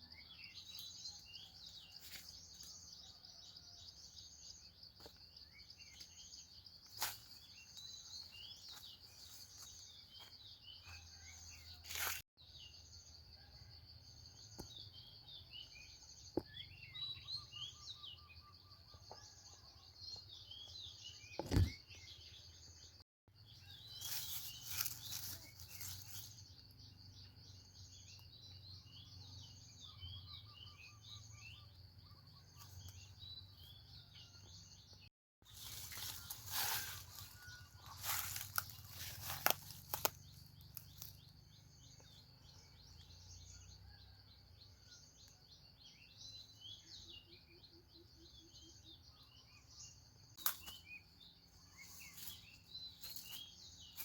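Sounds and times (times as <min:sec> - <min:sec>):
small birds chirping: 0:00.0 - 0:13.5, 0:14.5 - 0:54.0.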